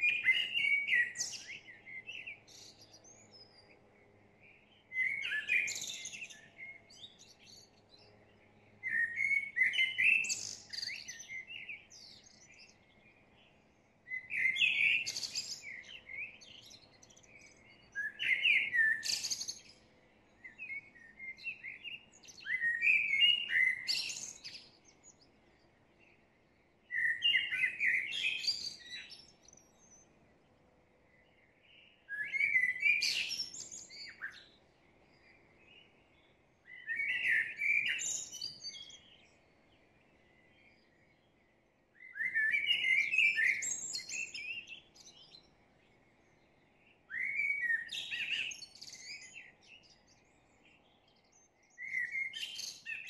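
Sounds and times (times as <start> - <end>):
songbird singing warbled phrases: 0.0 - 53.0.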